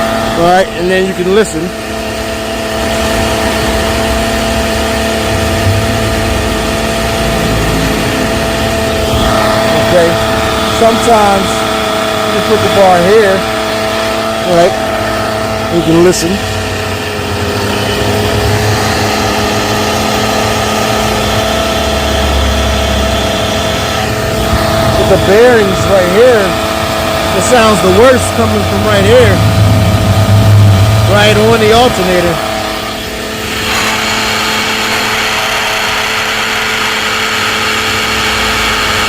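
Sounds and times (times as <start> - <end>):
car engine rumble through metal bar: 0.0 - 36.1
alternator whirring hiss: 0.0 - 39.0.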